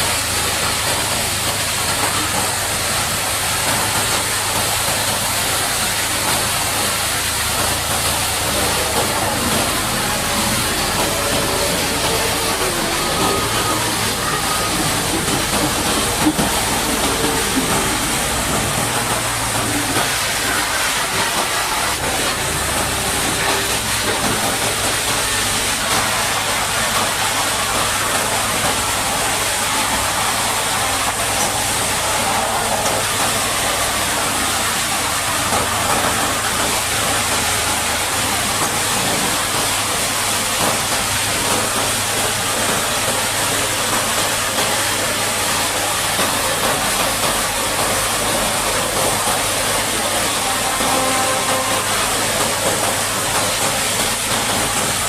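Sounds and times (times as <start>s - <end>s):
low machine hum: 0.0s - 38.6s, 46.4s - 55.0s
high-pressure water jet spraying: 0.0s - 55.0s.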